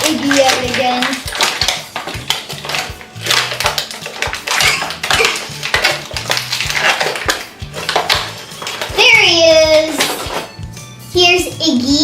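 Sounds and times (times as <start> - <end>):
plastic pieces rattling: 0.0 - 10.7.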